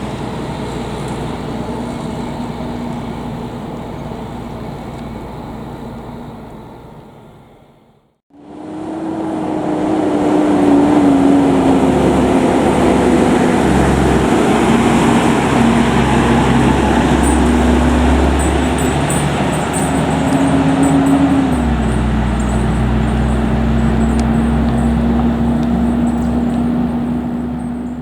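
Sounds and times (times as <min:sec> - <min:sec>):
heavy truck engine passing: 0:00.0 - 0:28.0.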